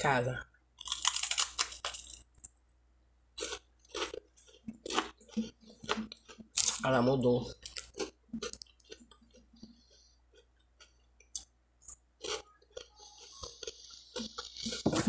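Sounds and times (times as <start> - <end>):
chewing crisp toast: 0.8 - 2.6, 3.4 - 6.8, 7.6 - 15.0.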